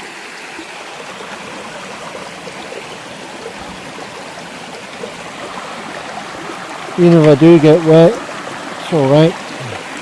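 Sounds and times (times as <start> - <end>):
shallow river flowing over rocks: 0.0 - 10.0.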